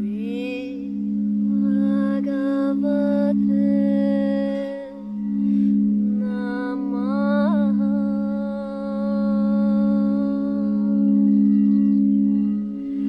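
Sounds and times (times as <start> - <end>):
singing bowl drone: 0.0 - 13.0.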